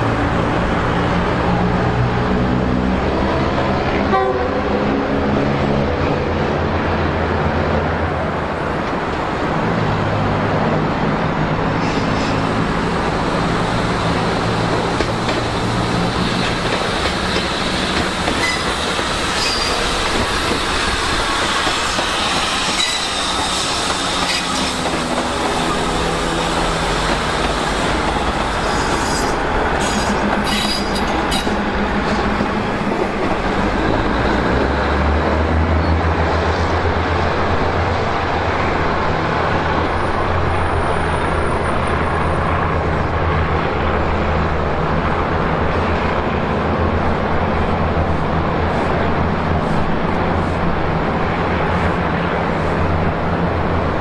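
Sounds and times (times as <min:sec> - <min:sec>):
diesel train engines: 0:00.0 - 0:54.0
wheels rumbling on rail: 0:00.0 - 0:54.0.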